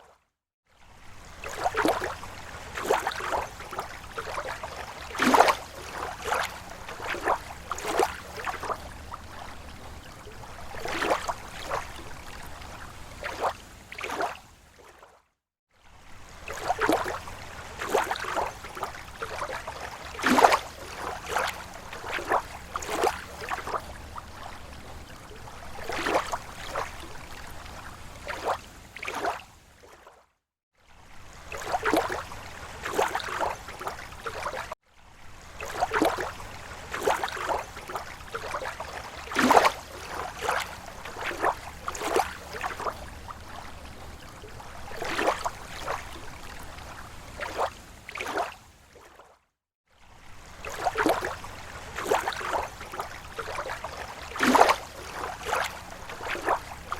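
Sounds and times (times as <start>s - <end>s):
waves lapping against shore: 0.0s - 56.9s.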